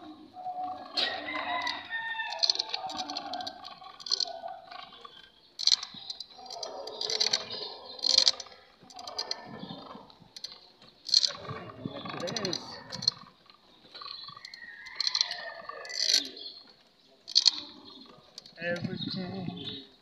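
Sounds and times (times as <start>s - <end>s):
roosters crowing: 0.0s - 10.5s, 11.1s - 16.6s
clicking and rattling: 1.1s - 9.5s, 10.3s - 16.4s, 17.3s - 19.2s.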